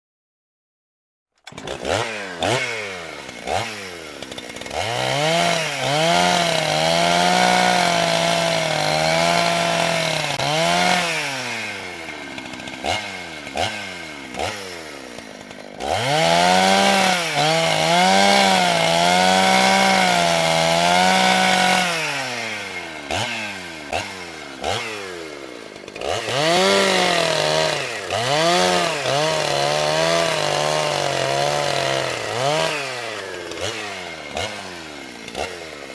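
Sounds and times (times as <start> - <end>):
chainsaw engine revving: 1.4 - 35.9.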